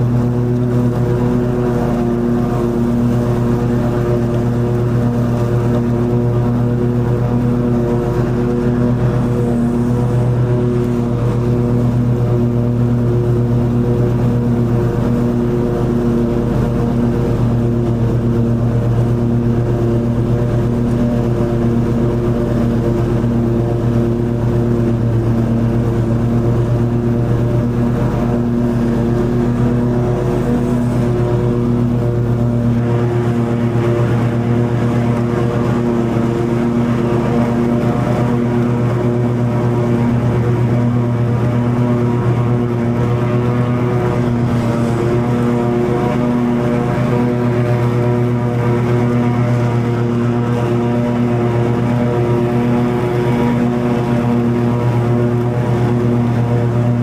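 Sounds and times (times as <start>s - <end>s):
mower blades cutting grass: 0.0s - 57.0s
mower engine running: 0.0s - 57.0s.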